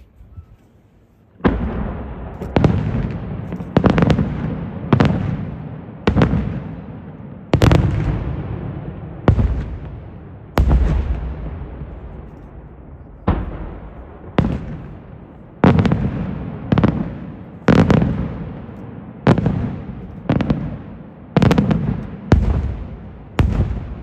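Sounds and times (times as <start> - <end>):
rolling echo: 1.3 - 24.0.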